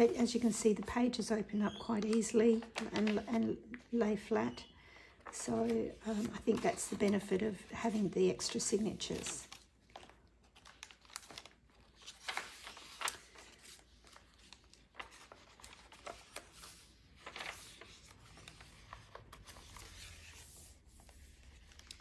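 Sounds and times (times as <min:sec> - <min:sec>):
paper pages rustling: 0:00.0 - 0:03.9, 0:05.1 - 0:22.0.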